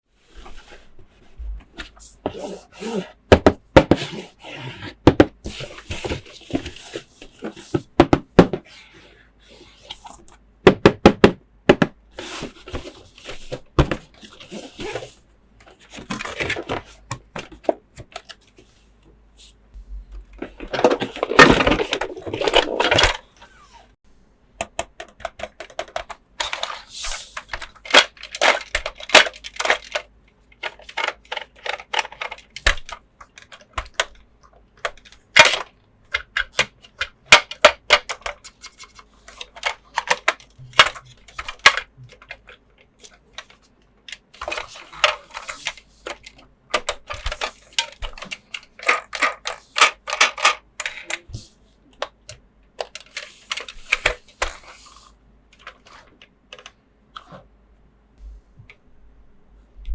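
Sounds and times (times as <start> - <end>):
plastic parts clicking and tapping: 5.0 - 8.7, 10.0 - 19.2, 20.1 - 23.2, 24.6 - 54.8, 55.5 - 57.3.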